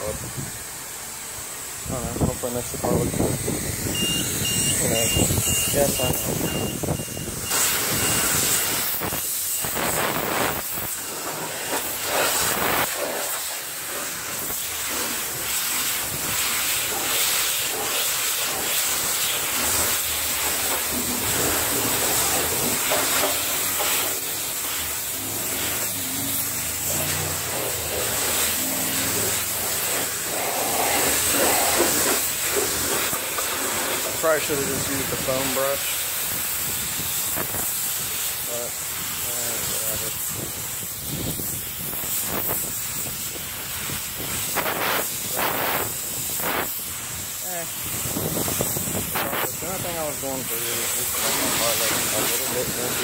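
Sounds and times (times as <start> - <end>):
pressure wand spraying water: 0.0 - 53.0.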